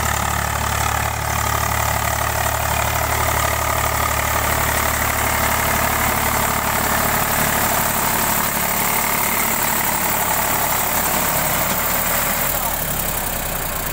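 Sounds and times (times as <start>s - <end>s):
tractor diesel engine running: 0.0s - 13.9s.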